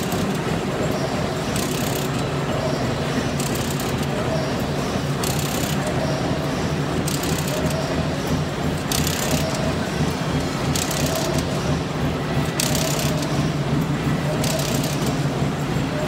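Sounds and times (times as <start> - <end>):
weaving machine drone and clatter: 0.0 - 16.0.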